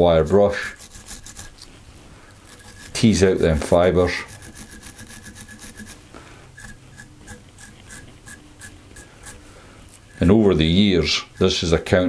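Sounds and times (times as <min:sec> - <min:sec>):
wire brush scratching: 0:00.0 - 0:12.0.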